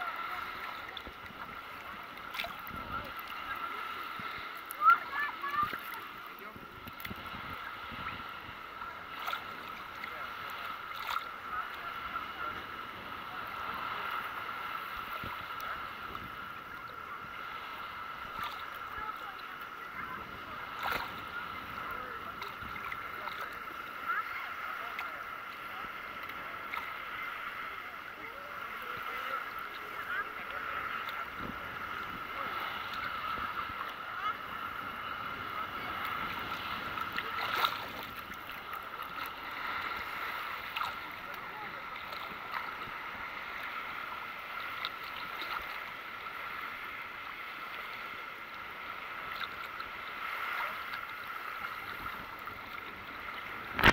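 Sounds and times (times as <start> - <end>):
water splash: 0.0 - 12.6, 13.5 - 34.4, 35.3 - 41.4, 49.2 - 53.9
small waves lapping: 0.0 - 53.9.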